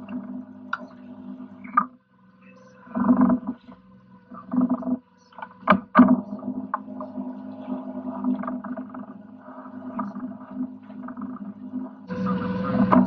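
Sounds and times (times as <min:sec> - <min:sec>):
outboard engine droning: 0:00.0 - 0:13.0.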